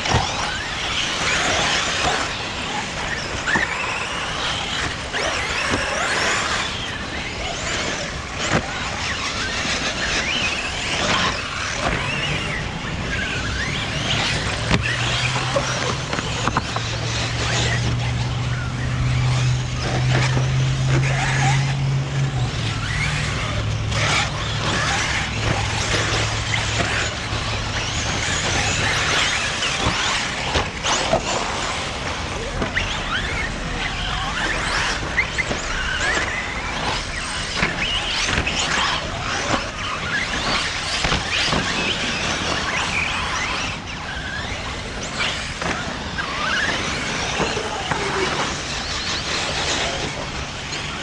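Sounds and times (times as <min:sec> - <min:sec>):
electric motors whining: 0:00.0 - 0:51.0.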